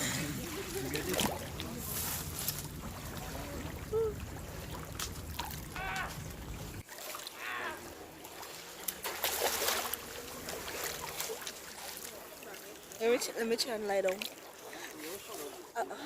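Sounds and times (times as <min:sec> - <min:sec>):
seawater splashing and lapping: 0:00.0 - 0:16.0.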